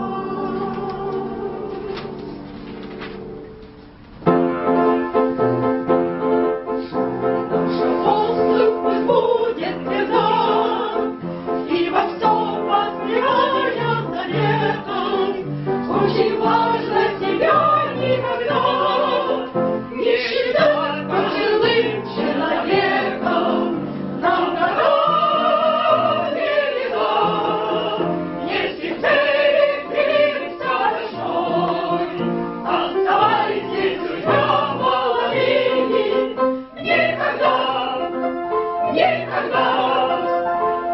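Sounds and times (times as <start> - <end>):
group of voices singing: 0.0 - 1.9, 7.7 - 38.2, 38.8 - 40.6
musical accompaniment: 0.0 - 40.9.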